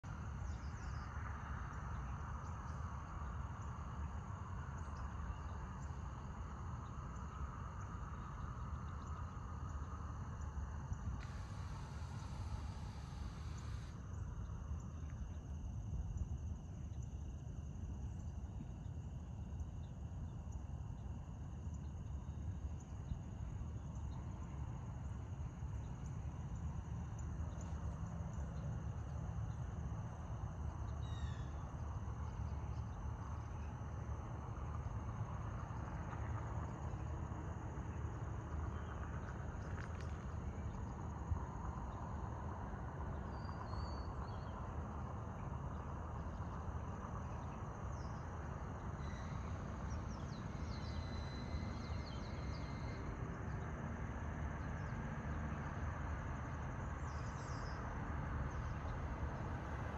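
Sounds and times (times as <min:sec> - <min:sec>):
insects chirring: 0:00.1 - 0:59.9.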